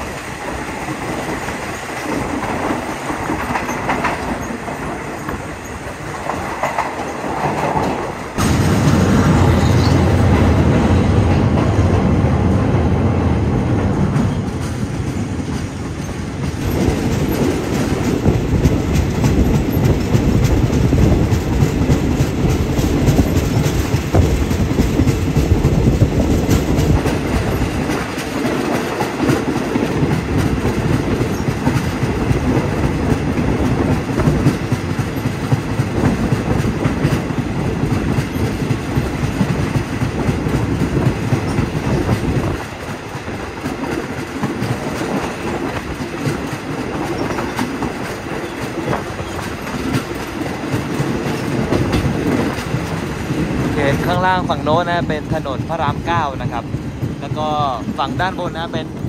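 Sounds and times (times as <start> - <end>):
wheels clacking over rail joints: 0.0 - 12.2, 13.7 - 59.0
train rolling on track: 0.0 - 59.0.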